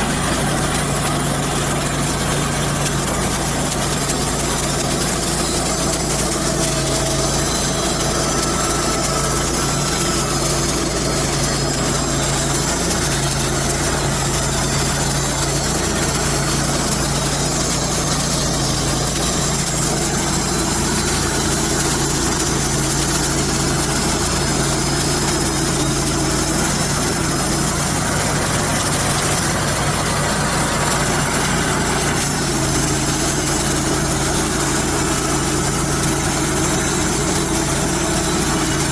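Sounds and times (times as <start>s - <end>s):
bandsaw blade cutting log: 0.0s - 38.9s
sawmill engine droning: 0.0s - 38.9s.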